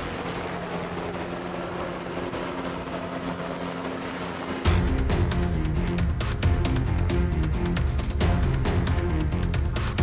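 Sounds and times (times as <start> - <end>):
helicopter running: 0.0 - 9.5.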